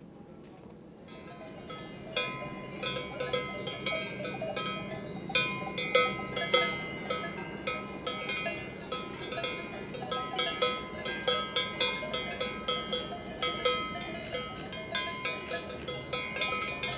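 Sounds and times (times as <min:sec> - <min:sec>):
cowbells clanking: 0:01.1 - 0:16.9.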